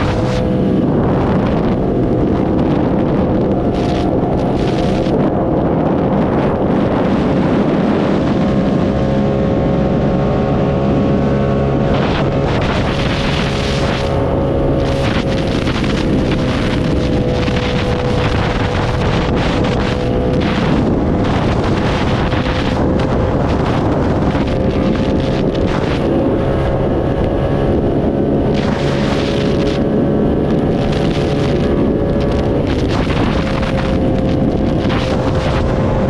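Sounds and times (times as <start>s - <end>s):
motorcycle engine cruising: 0.0s - 36.0s
wind rushing over microphone: 0.0s - 36.0s.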